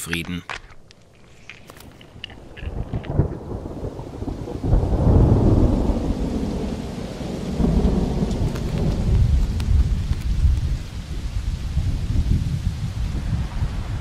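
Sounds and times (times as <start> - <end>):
thunder rumbling: 2.6 - 14.0.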